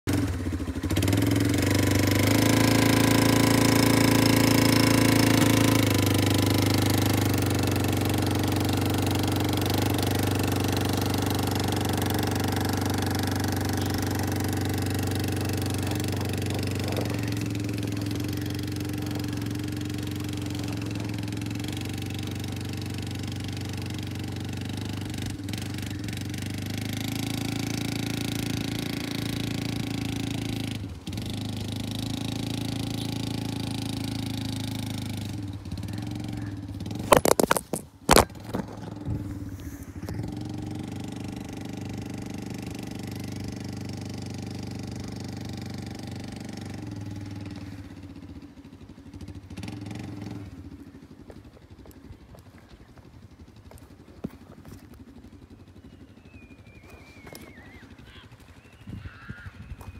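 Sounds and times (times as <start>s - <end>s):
atv engine under load: 0.0s - 59.9s.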